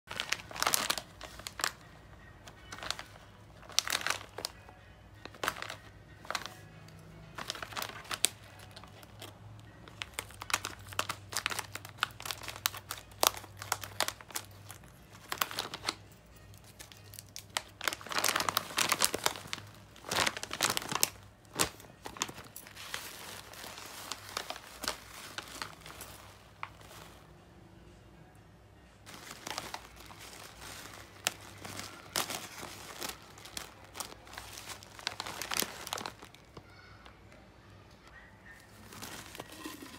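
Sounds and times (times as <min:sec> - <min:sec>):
plastic packet crinkling: 0:00.1 - 0:27.2, 0:29.1 - 0:36.9, 0:38.5 - 0:39.9
paper tea bags rustling: 0:00.1 - 0:27.4, 0:29.0 - 0:37.0, 0:38.5 - 0:39.9.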